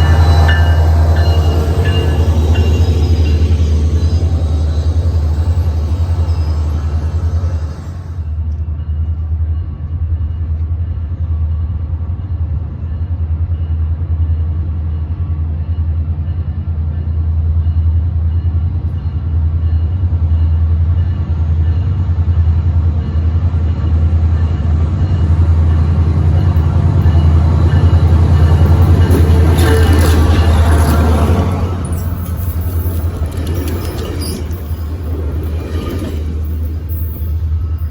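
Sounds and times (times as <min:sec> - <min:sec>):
train engine rumble: 0:00.0 - 0:37.9.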